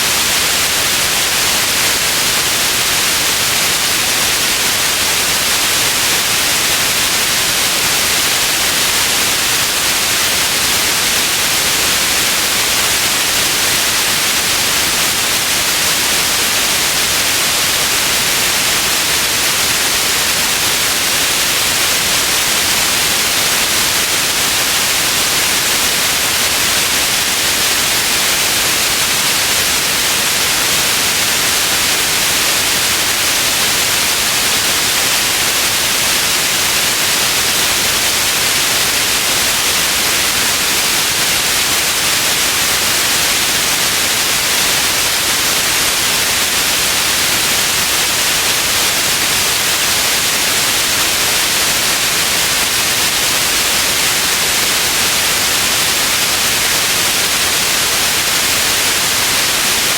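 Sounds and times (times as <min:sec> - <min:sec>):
loud white noise: 0:00.0 - 0:59.9.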